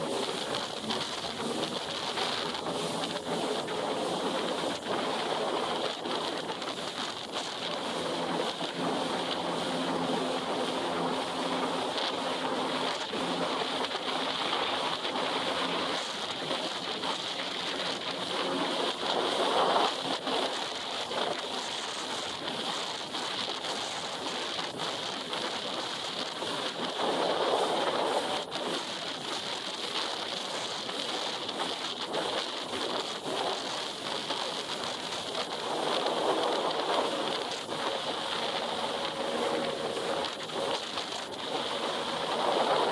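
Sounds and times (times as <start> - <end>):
jet ski engine drone: 0.0 - 42.9
rush of wind and water: 0.0 - 42.9.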